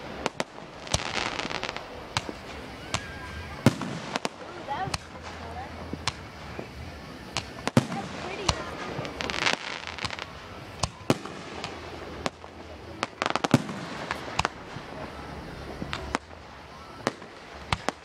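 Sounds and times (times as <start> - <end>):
fireworks bursting with bangs: 0.0 - 18.0
fireworks popping clusters: 0.0 - 18.0.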